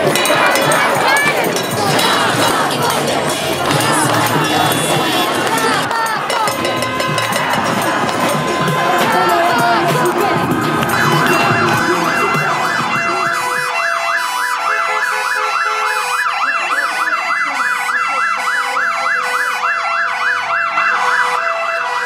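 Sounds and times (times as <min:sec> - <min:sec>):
ambulance siren yelping: 0:00.0 - 0:22.0.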